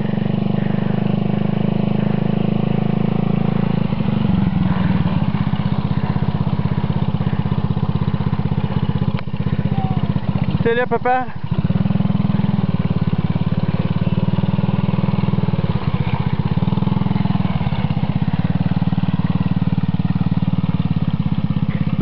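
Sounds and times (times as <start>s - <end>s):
small atv engine putter: 4.0s - 22.0s.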